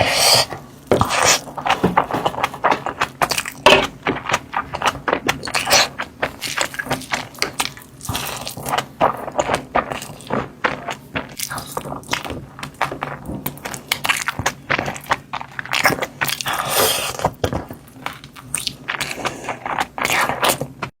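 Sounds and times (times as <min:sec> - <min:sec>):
close-miked chewing: 0:00.0 - 0:20.9.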